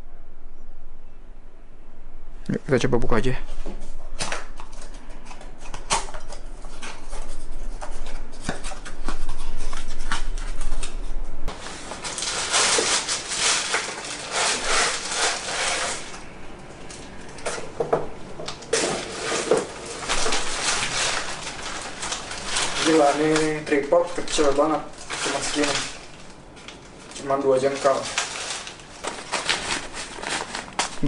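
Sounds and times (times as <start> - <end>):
plastic bag crinkling: 4.0 - 17.5, 18.6 - 31.0.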